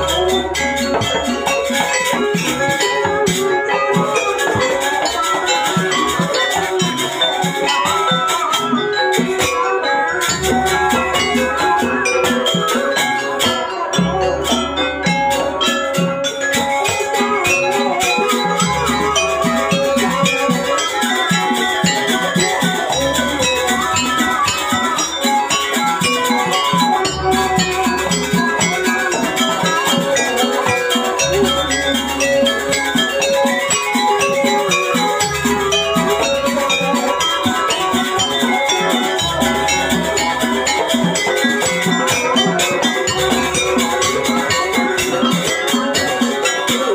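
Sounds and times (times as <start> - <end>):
drums playing: 0.0 - 46.9
tuned metal percussion: 0.0 - 46.9.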